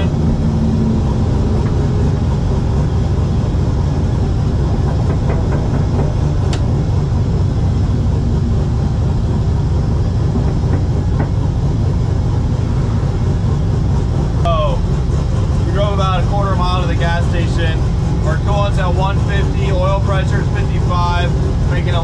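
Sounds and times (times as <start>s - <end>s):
car engine low rumble: 0.0s - 22.0s
road noise: 0.0s - 22.0s.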